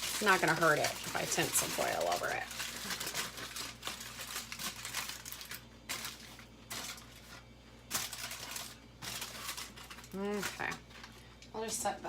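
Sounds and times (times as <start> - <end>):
aluminium foil crinkling: 0.0 - 11.9.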